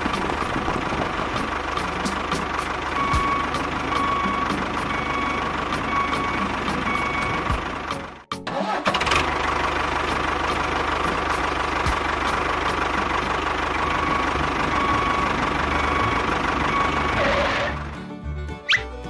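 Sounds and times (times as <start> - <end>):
small tractor engine idling: 0.0 - 17.9.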